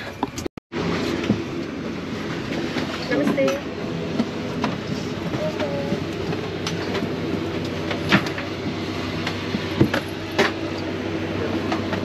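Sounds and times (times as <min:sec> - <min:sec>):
airliner engines humming: 0:00.0 - 0:12.0.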